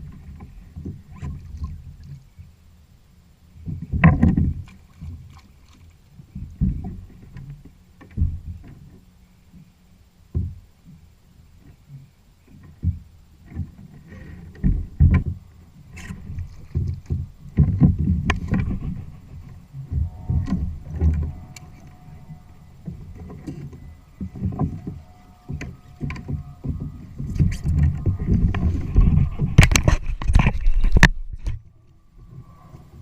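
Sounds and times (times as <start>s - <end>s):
knocks and thumps on kayak hull: 3.6s - 9.6s, 10.3s - 11.0s, 11.6s - 31.6s.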